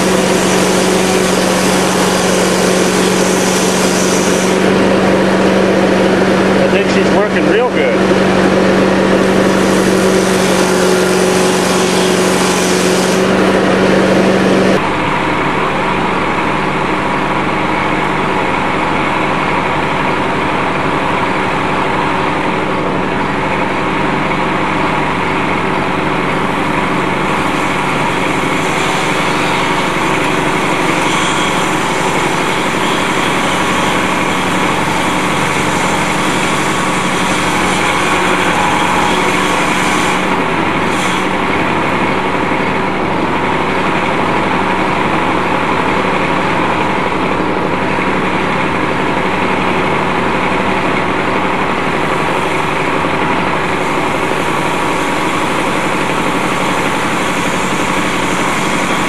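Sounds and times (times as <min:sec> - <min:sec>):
lawnmower engine running: 0:00.0 - 0:59.0.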